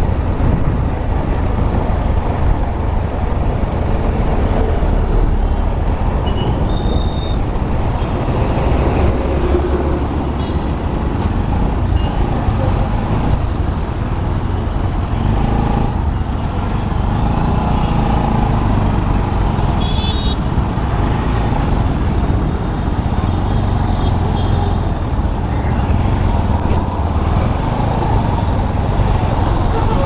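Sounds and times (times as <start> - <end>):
motorcycle engine and road noise: 0.0 - 30.0.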